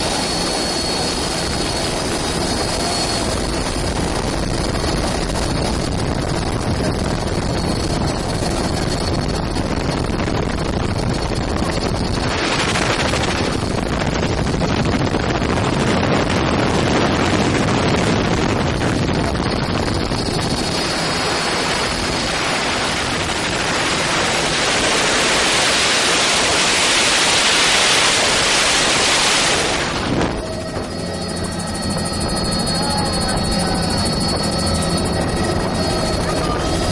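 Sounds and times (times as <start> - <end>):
helicopter rotor and engine noise: 0.0 - 36.9
wind buffeting microphone: 0.0 - 36.9.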